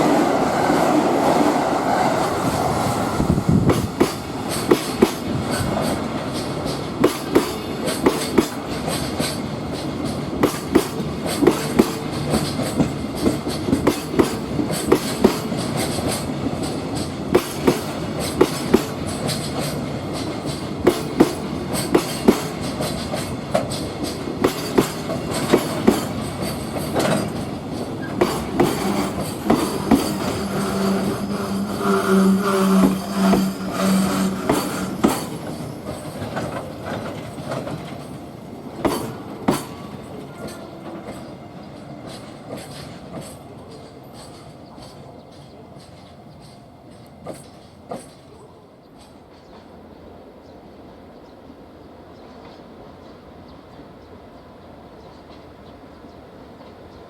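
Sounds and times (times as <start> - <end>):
freight train passing: 0.0 - 57.0
wheels clacking over rail joints: 3.6 - 49.8.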